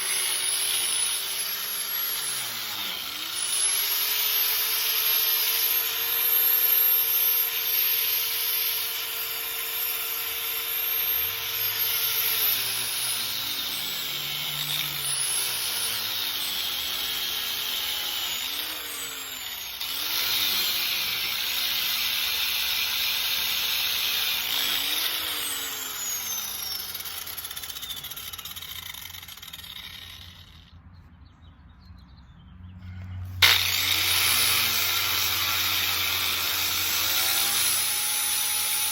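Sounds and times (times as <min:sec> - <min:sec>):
angle grinder grinding metal: 0:00.0 - 0:30.7, 0:33.4 - 0:38.9.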